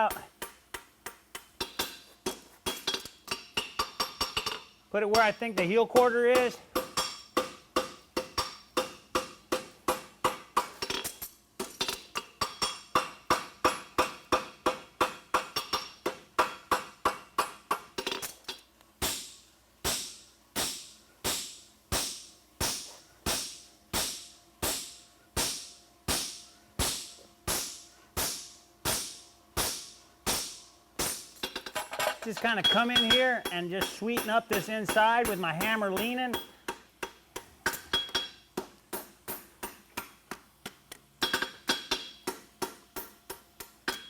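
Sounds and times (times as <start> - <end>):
hammer striking metal on anvil: 0.0 - 31.8, 32.6 - 44.0.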